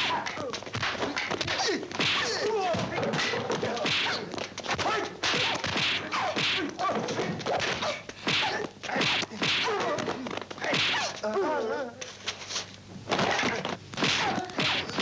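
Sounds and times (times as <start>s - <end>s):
sharp whacks of blows: 0.0s - 11.2s, 13.1s - 15.0s.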